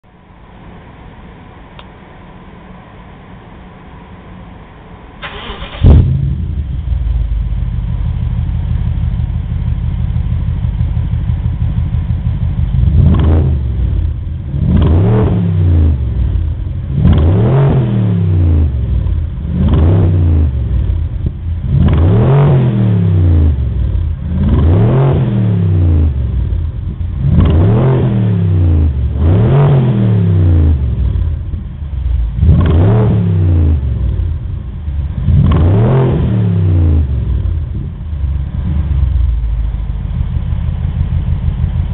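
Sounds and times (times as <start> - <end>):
car engine starting and idling: 0.2 - 41.9
car engine revving: 5.2 - 41.9.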